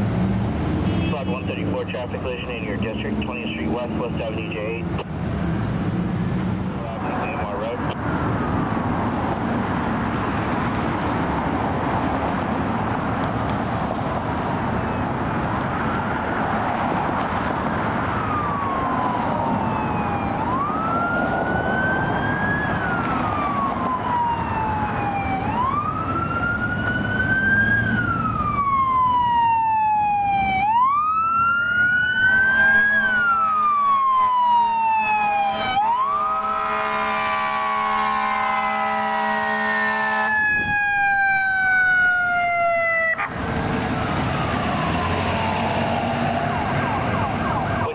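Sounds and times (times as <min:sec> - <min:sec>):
road traffic: 0:00.0 - 0:47.9
siren wailing: 0:01.0 - 0:05.1, 0:06.8 - 0:09.2, 0:14.8 - 0:47.9.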